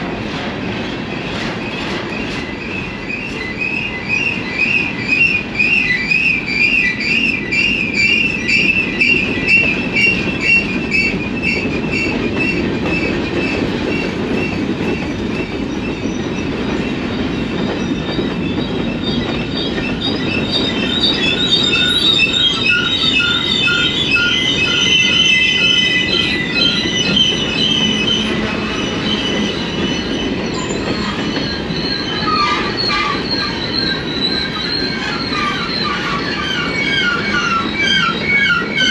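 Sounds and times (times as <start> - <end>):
rumble of train cars: 0.0 - 38.9
train wheels squealing: 0.0 - 38.9.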